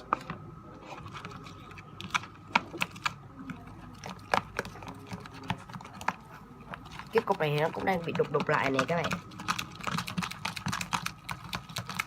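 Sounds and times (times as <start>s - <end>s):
stirring tool clicking on container: 0.0s - 12.0s.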